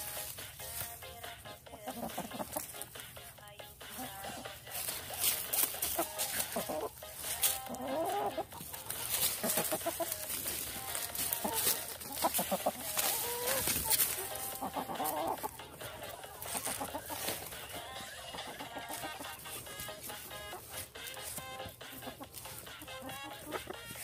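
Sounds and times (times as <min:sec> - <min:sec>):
hands scraping dry soil: 0:00.0 - 0:01.3, 0:03.8 - 0:24.0
chicken clucking: 0:00.0 - 0:24.0.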